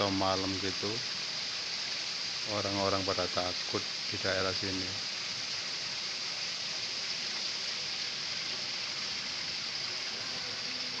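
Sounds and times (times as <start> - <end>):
spring water rushing: 0.0 - 11.0.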